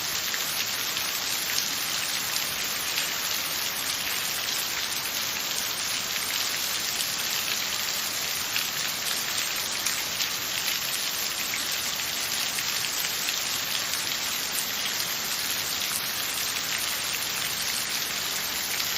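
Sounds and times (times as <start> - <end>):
steady rain falling: 0.0 - 18.9.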